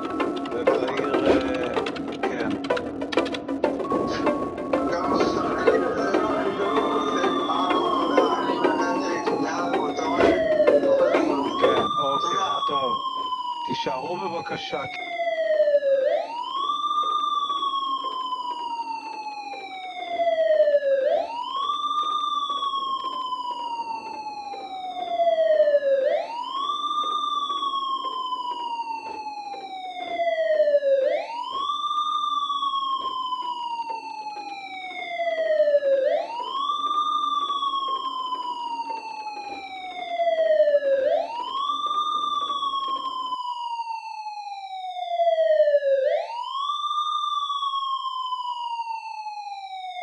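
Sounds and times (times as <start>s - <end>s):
air-raid siren wailing: 0.0s - 50.0s.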